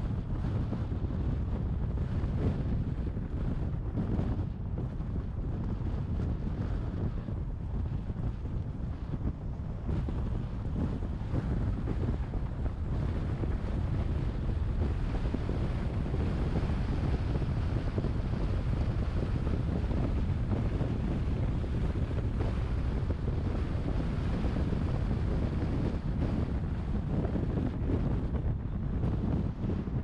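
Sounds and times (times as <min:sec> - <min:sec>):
road and tyre noise: 0:00.0 - 0:30.0
wind buffeting microphone: 0:00.0 - 0:30.0.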